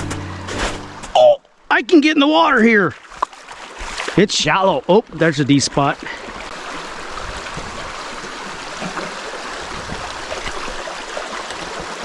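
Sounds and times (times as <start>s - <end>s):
creek flowing over rocks: 1.6s - 12.0s.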